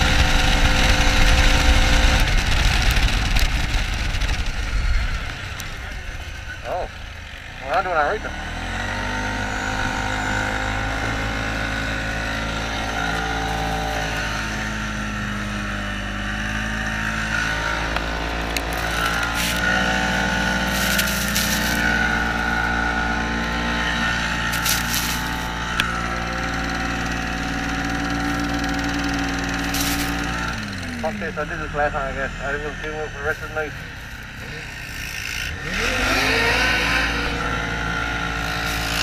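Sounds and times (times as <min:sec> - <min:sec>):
rushes of noise: 0:00.0 - 0:39.0
snowmobile engine running: 0:00.0 - 0:39.0.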